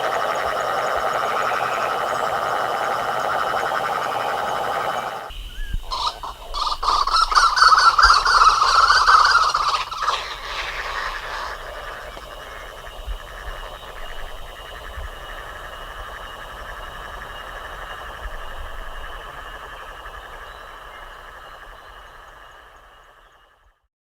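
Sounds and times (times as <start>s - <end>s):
wild bird pulsed calls: 0.0s - 23.8s.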